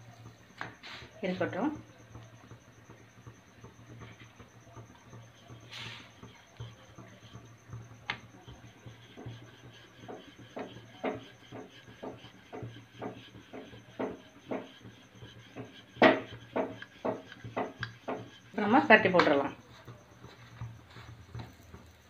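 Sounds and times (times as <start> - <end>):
rolling pin knocking on stone board: 0.4 - 22.0.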